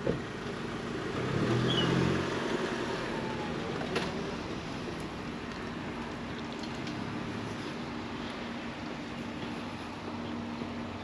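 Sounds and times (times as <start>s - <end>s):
car and caravan rolling: 0.0s - 11.0s.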